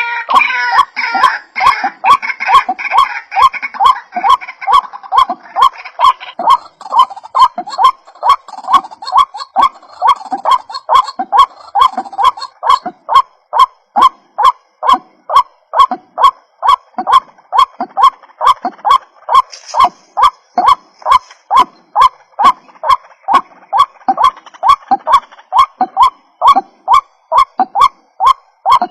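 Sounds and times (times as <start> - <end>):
waterhen calling: 0.0 - 28.9.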